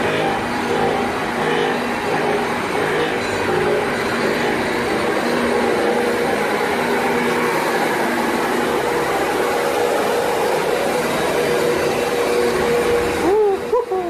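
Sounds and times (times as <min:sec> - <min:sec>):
milling machine humming: 0:00.0 - 0:14.0.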